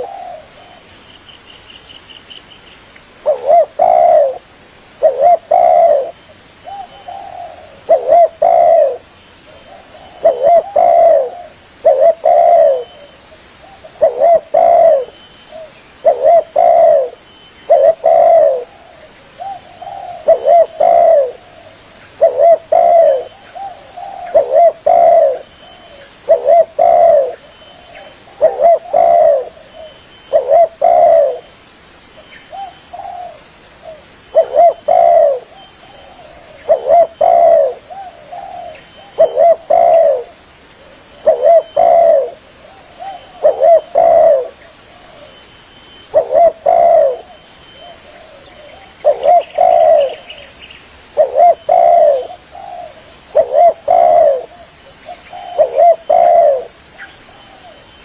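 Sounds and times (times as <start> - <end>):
dove cooing: 0.0 - 1.0, 3.2 - 31.6, 32.4 - 58.0.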